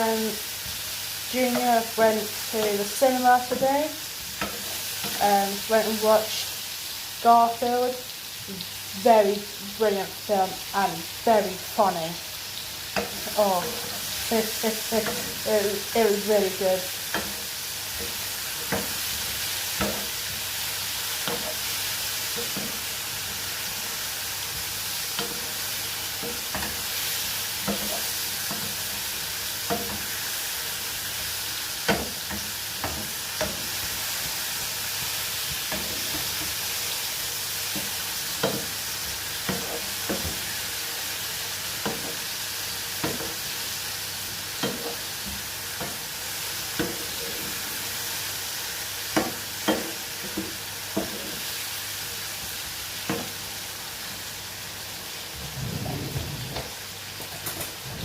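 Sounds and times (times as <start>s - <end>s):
mushrooms sizzling in frying pan: 0.0s - 58.0s.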